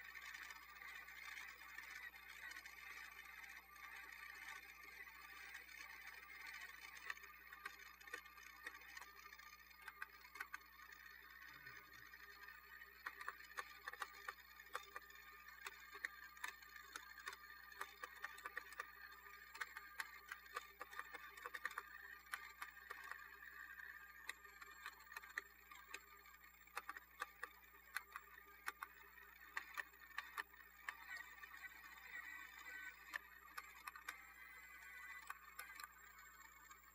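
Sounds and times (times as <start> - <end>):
gears clicking: 0.0 - 36.9
toy motor whirring: 0.0 - 36.9.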